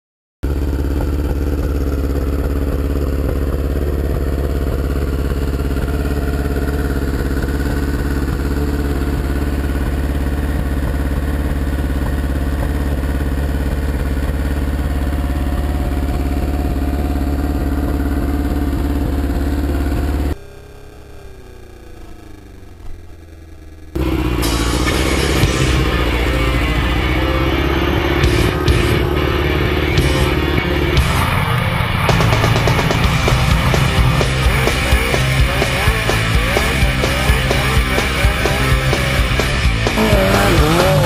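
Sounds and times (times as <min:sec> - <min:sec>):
motorcycle engine idling: 0:00.4 - 0:41.0.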